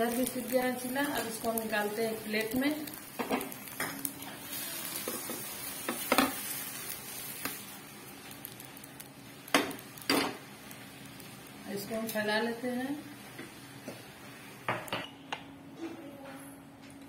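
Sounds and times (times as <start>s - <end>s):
food sizzling in a frying pan: 0.0s - 15.1s.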